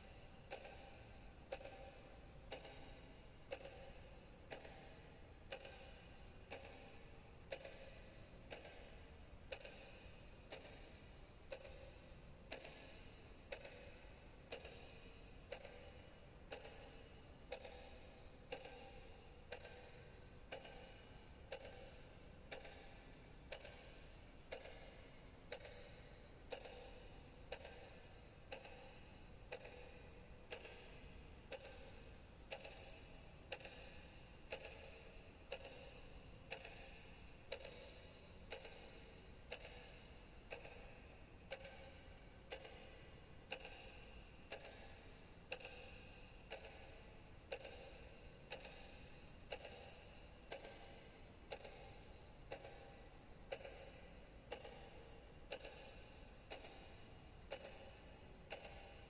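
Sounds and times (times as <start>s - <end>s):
faint clock ticking: 0.0s - 59.0s.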